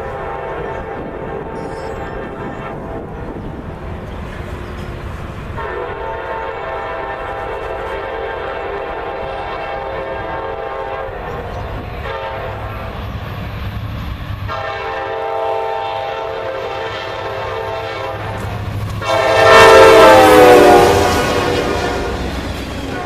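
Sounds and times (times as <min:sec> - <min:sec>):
train horn blasts: 0:00.0 - 0:03.6, 0:05.5 - 0:13.0, 0:14.5 - 0:23.0
passing train rumble: 0:00.0 - 0:23.0.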